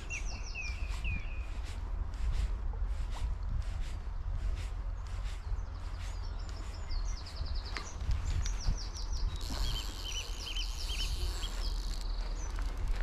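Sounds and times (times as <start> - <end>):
songbirds singing: 0.0 - 13.0
steady low rumble: 0.0 - 13.0.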